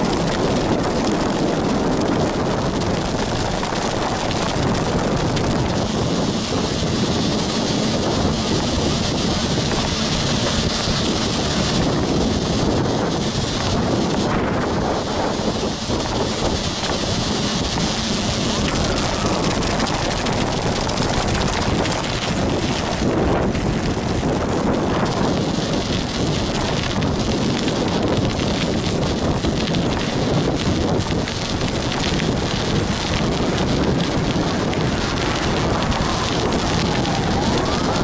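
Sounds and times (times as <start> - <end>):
studded bicycle tyres crackling: 0.0 - 38.0
wind on microphone: 0.0 - 38.0.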